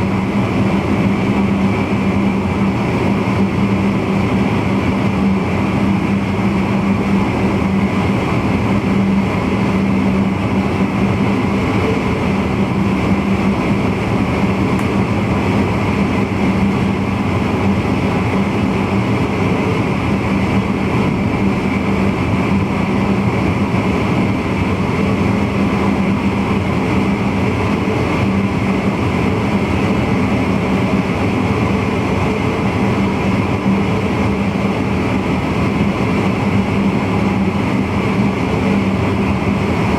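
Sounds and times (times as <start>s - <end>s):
steady low hum: 0.0s - 39.9s
wheel-on-rail rumble: 0.0s - 39.9s.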